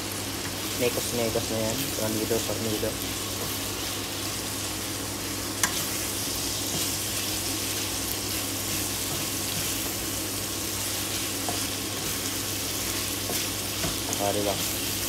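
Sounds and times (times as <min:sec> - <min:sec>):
pork sizzling in frying pan: 0:00.0 - 0:15.0.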